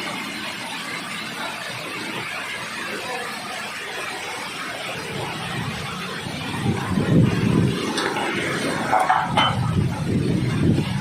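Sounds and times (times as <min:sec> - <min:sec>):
heavy rain: 0:00.0 - 0:11.0
rushing runoff water: 0:00.0 - 0:11.0.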